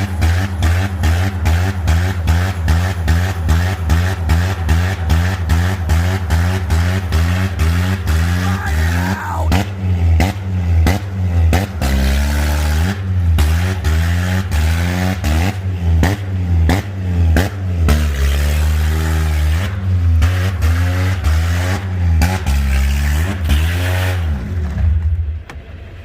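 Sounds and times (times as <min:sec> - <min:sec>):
car engine revving hard: 0:00.0 - 0:24.8.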